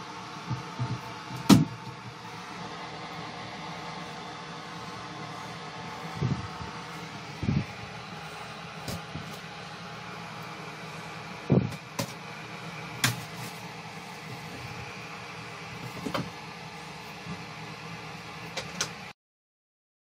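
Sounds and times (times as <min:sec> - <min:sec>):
ventilation fan humming: 0:00.0 - 0:19.2.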